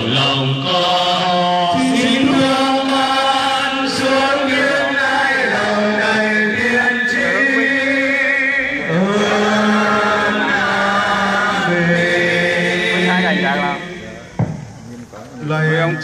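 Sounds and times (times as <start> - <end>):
voices singing a slow hymn: 0.0 - 16.0.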